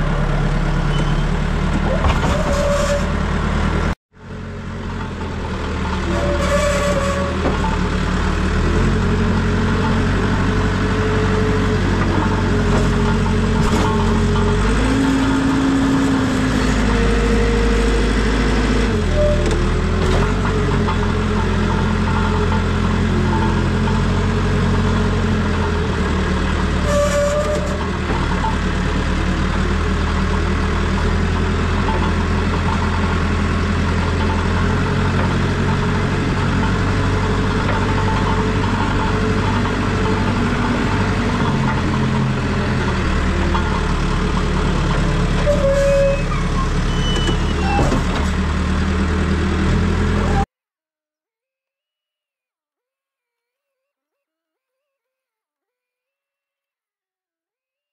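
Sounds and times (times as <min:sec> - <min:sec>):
diesel engine running: 0:00.0 - 0:50.5.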